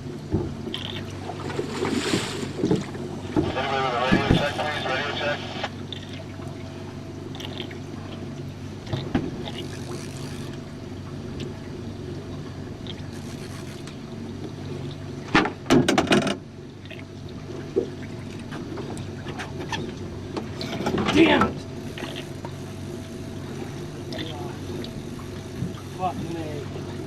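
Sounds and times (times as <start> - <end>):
small boat engine humming: 0.0 - 27.0.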